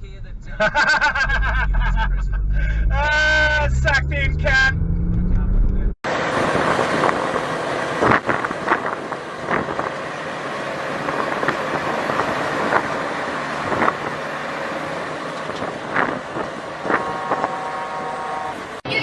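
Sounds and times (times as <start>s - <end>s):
road and engine rumble: 0.0s - 19.0s.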